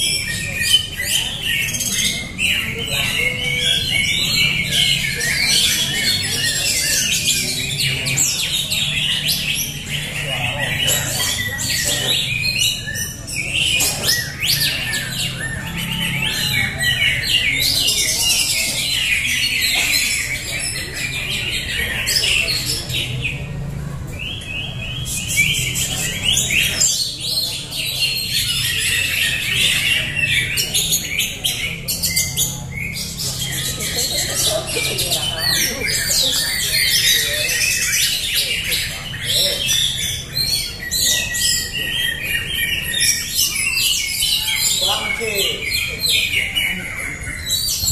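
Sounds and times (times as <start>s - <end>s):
caged birds singing: 0.0s - 47.9s.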